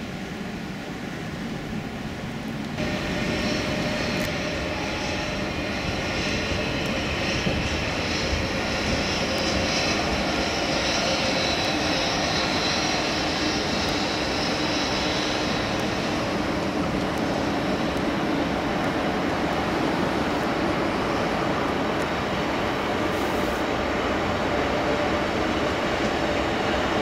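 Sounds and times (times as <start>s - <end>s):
high locomotive whine: 0.0s - 27.0s
train wheels rolling on rail: 2.4s - 27.0s.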